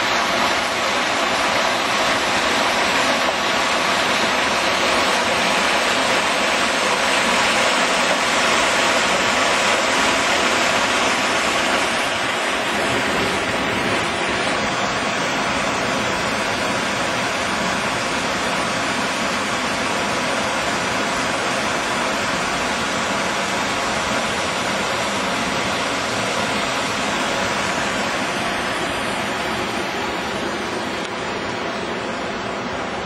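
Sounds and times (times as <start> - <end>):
rushing water over rocks: 0.0 - 33.0.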